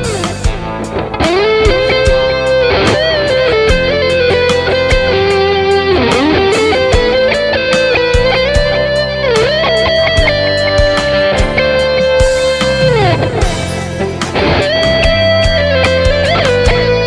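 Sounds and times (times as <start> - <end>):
backing track with drums and bass: 0.0 - 17.0
electric guitar lead melody: 0.0 - 17.0.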